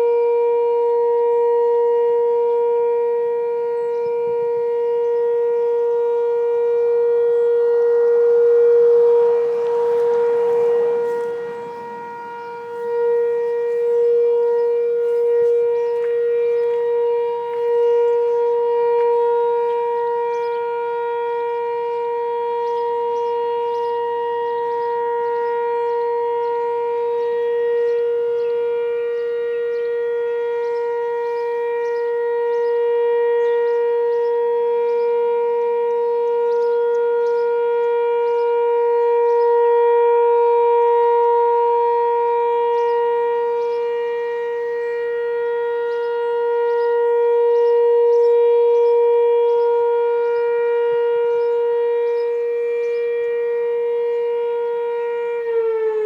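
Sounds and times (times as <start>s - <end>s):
warning siren steady tone: 0.0s - 56.0s.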